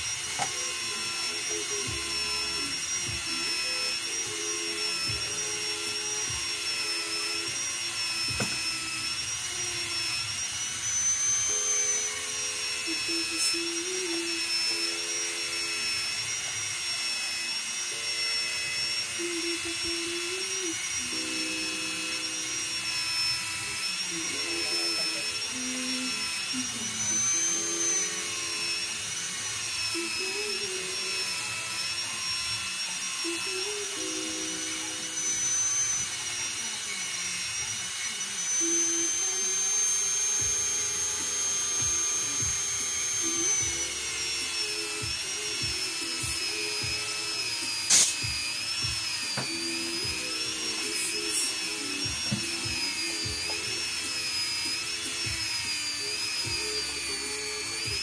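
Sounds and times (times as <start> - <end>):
rotary grinder whining: 0.0 - 58.0.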